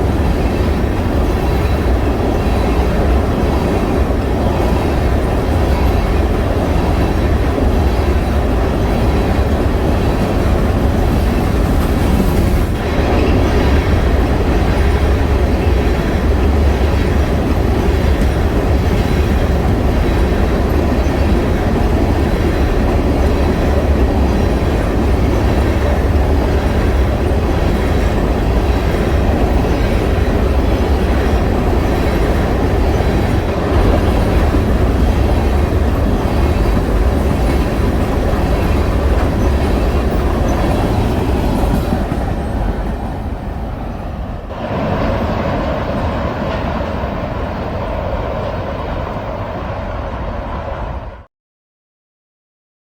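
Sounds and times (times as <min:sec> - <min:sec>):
freight train rolling on rails: 0:00.0 - 0:51.3.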